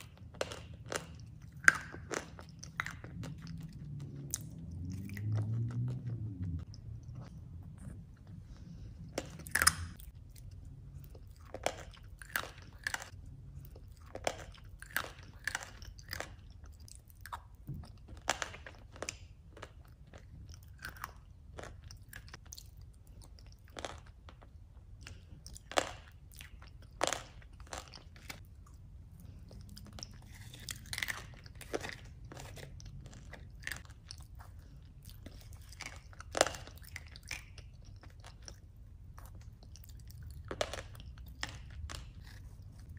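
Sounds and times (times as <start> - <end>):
chewing and crunching: 0.0 - 42.9
low steady hum: 0.0 - 42.9.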